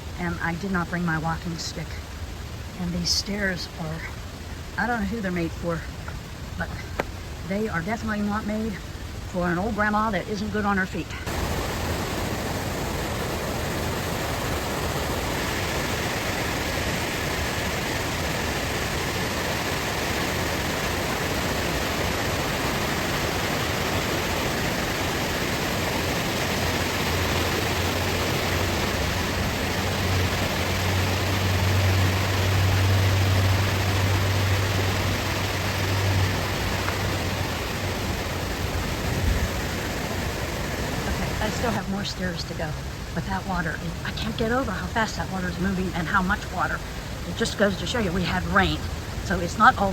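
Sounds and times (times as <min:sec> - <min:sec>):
creek rushing over rocks: 0:00.0 - 0:49.9.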